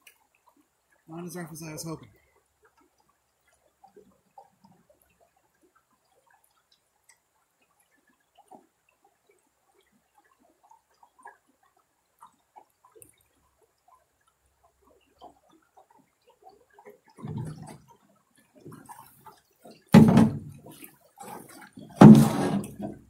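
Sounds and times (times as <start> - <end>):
river water trickling over stones: 0.0 - 23.0.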